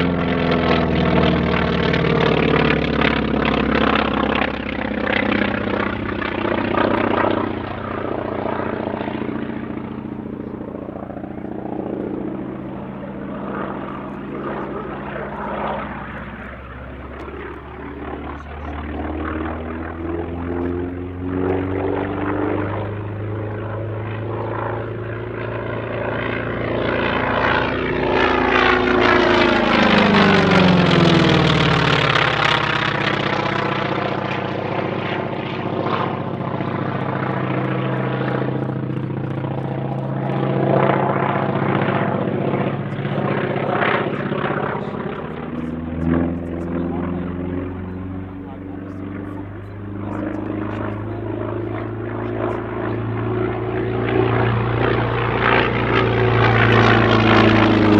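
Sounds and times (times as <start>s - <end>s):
propeller aircraft flying past: 0.0s - 57.9s.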